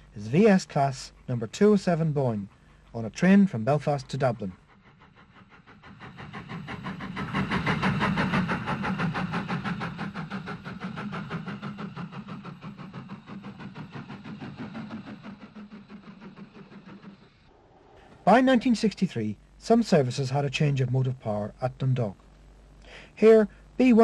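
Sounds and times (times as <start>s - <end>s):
steam locomotive passing: 0.0s - 22.2s.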